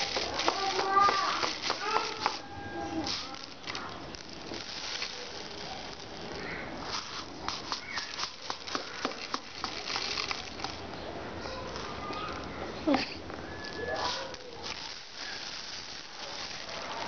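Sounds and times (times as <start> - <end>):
grains poured through plastic funnel: 0.0 - 12.6, 13.3 - 17.0.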